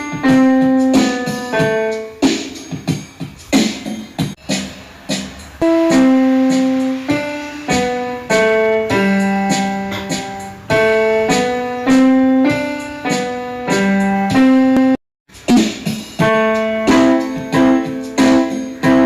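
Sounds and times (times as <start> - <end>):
slow piano melody: 0.0 - 3.4, 4.4 - 15.0, 16.2 - 19.0.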